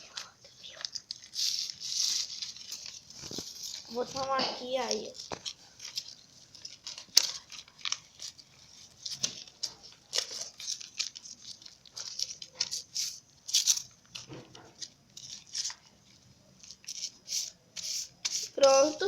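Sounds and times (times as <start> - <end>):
paper crinkling and rustling: 0.0 - 19.0.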